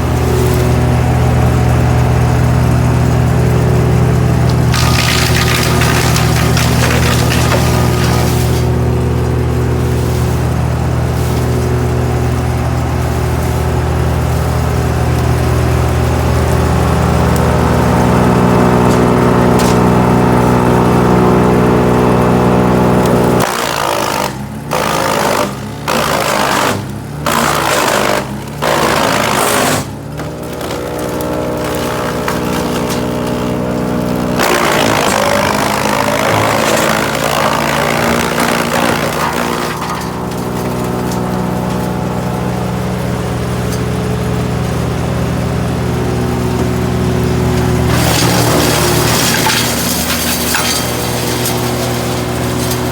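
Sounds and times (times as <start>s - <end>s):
wood chipper running: 0.0s - 52.9s.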